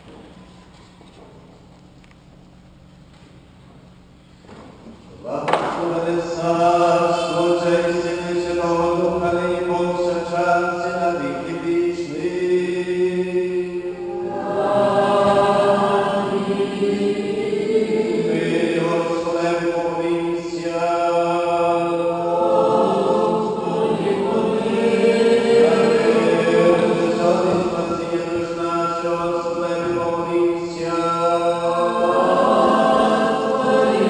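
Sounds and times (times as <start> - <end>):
voices singing liturgical chant: 5.2 - 34.0.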